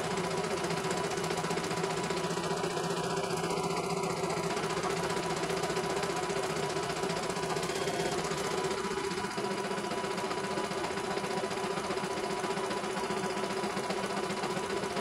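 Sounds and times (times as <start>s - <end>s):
embroidery machine needle clatter: 0.0s - 15.0s
motor hum: 0.0s - 15.0s.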